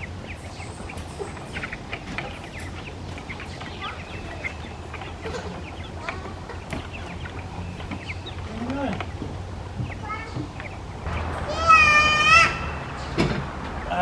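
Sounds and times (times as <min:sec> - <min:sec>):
birds chirping and peeping: 0:00.0 - 0:14.0.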